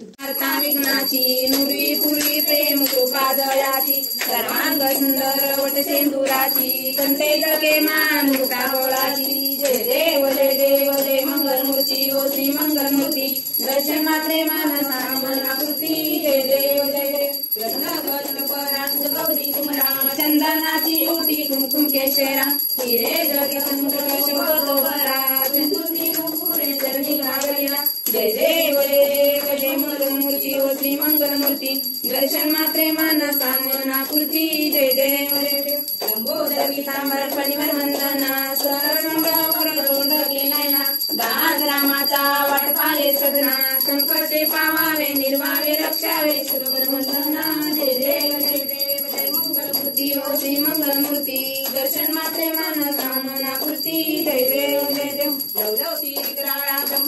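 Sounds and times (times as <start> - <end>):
devotional song singing: 0.0 - 57.0
hand bell ringing: 0.2 - 57.0.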